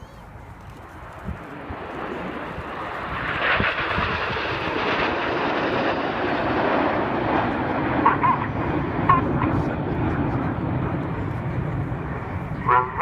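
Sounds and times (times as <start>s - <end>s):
jets flying past: 0.3s - 13.0s.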